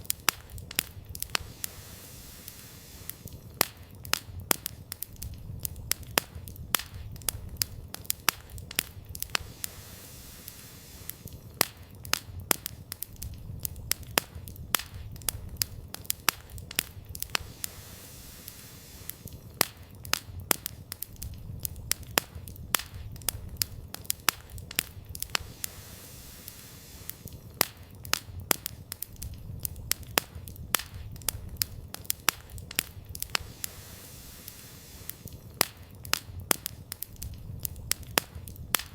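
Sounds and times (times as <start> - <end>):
burning fire rumble: 0.0 - 38.9
campfire crackling and popping: 0.0 - 38.9.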